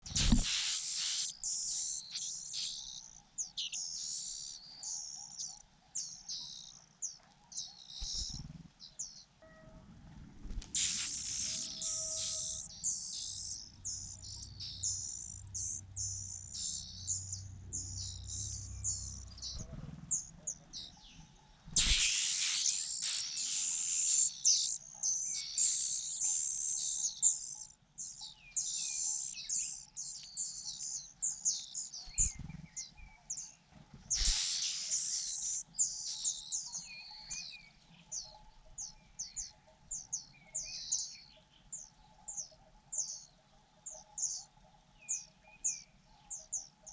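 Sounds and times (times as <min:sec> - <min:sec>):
nestlings begging chirps: 0:00.0 - 0:09.2, 0:10.6 - 0:33.5, 0:34.1 - 0:41.2.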